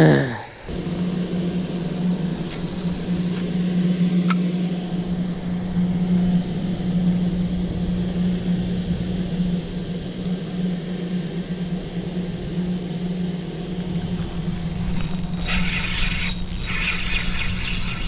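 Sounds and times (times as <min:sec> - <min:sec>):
low mechanical hum: 0:00.0 - 0:18.0
wash of noise: 0:00.5 - 0:18.0.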